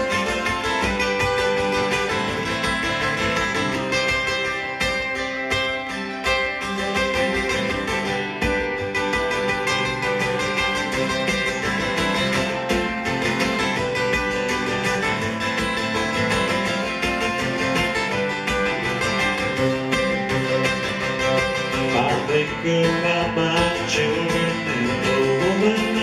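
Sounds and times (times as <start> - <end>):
acoustic guitar strumming: 0.0 - 26.0
country folk band playing: 0.0 - 26.0.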